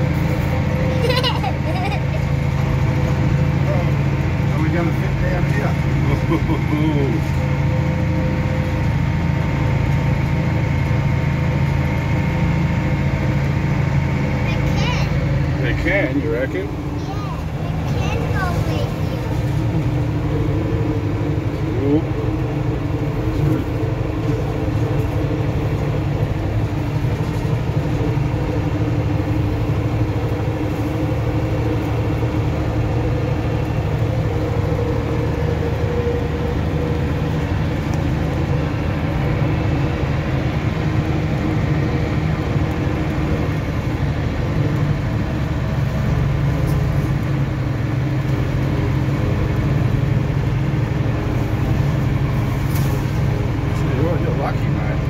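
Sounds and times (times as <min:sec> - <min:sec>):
truck engine drone from cab: 0:00.0 - 0:55.0.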